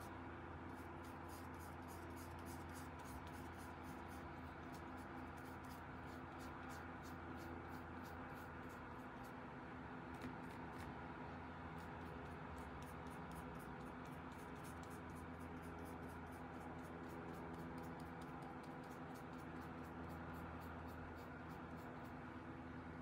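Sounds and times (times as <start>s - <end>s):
faint low hum: 0.0s - 23.0s
paintbrush scratching on paper: 0.7s - 9.4s, 11.8s - 22.2s.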